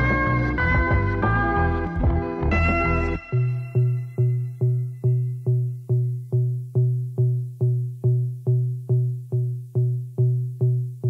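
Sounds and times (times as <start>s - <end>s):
electronic music beat: 0.0s - 11.0s.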